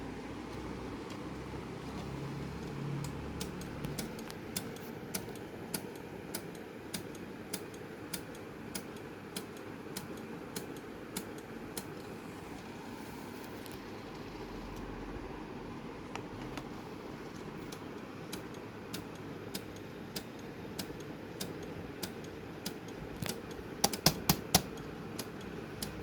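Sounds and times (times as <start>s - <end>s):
disc drive clicking: 0.5s - 15.1s, 16.0s - 26.0s.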